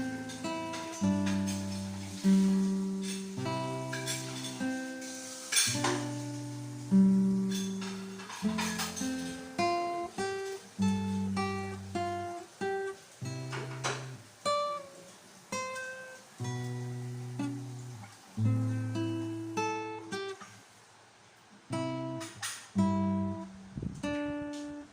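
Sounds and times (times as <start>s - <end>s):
guitar chords: 0.0s - 20.6s, 21.7s - 24.9s.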